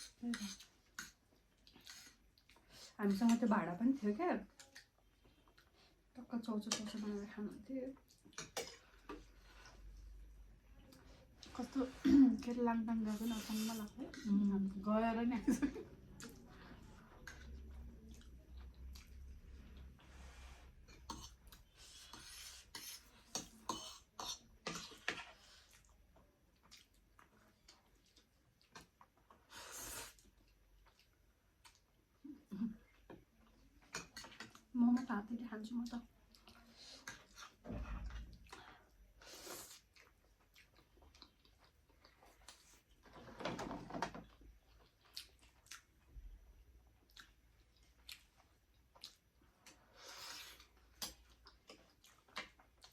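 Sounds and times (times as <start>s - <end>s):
chewing noodles: 0.0s - 3.4s, 4.4s - 6.2s, 7.9s - 11.7s, 16.1s - 20.1s, 20.9s - 34.7s, 36.0s - 43.2s, 44.2s - 52.9s.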